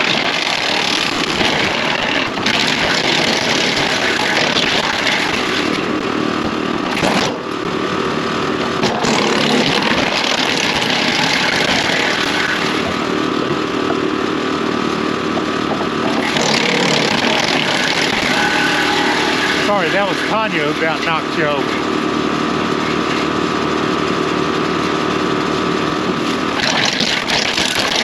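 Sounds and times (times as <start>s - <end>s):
tractor engine: 0.0s - 28.0s
wood chipper chipping branches: 0.0s - 28.0s.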